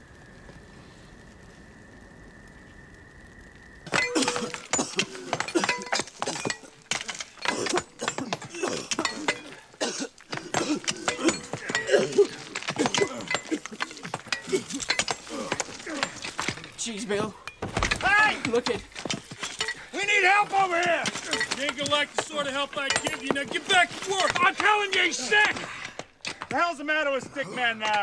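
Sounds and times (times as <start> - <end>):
hand tools striking rock: 3.9 - 28.0.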